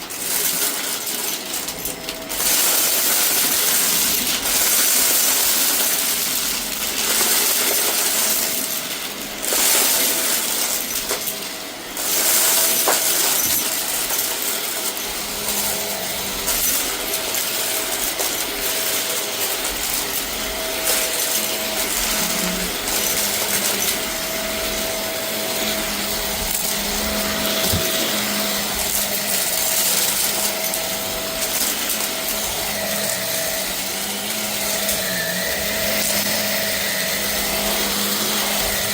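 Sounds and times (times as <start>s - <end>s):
debris rattling in vacuum: 0.0s - 38.9s
vacuum cleaner running: 0.0s - 38.9s.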